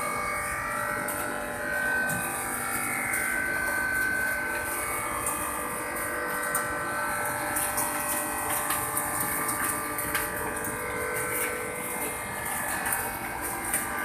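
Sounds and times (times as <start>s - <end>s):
refrigeration machinery hum: 0.0s - 14.0s.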